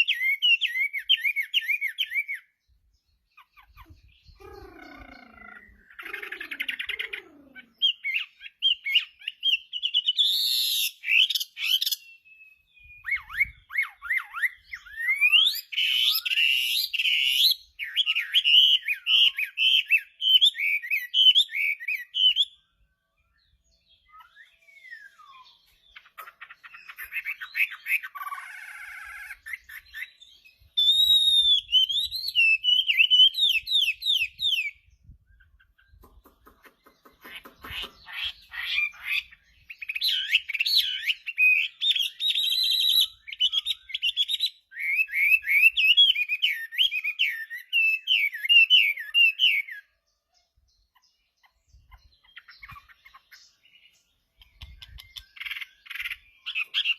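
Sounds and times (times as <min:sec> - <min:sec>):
bird singing whistles and trills: 0:00.0 - 0:56.9.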